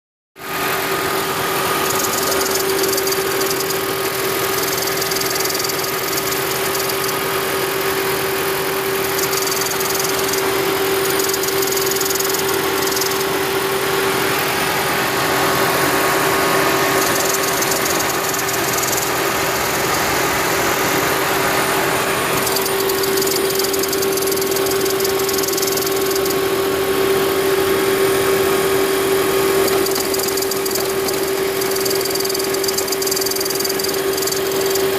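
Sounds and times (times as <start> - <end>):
car engine humming: 0.5 - 34.9.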